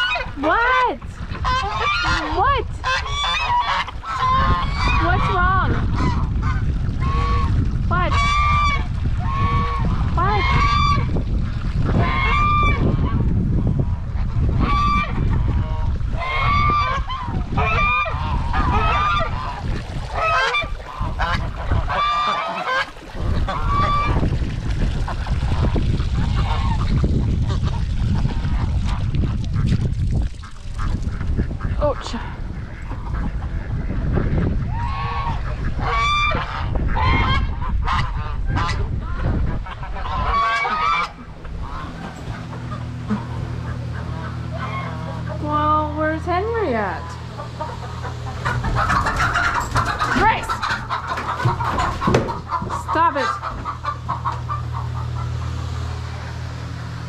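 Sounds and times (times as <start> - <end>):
goose honking: 0.0 - 11.1, 11.8 - 13.2, 13.8 - 24.2, 25.4 - 29.0, 30.8 - 57.0
wind buffeting microphone: 0.0 - 57.0.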